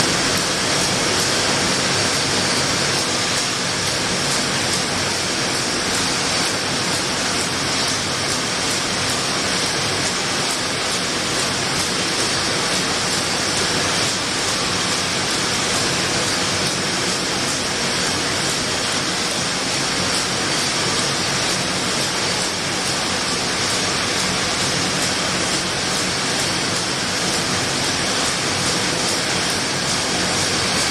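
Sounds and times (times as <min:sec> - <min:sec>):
packaging line machine noise: 0:00.0 - 0:30.9.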